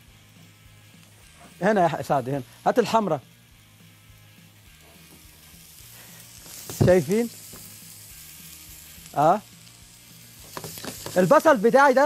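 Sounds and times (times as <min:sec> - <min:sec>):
onion sizzling in a skillet: 0:00.0 - 0:12.0.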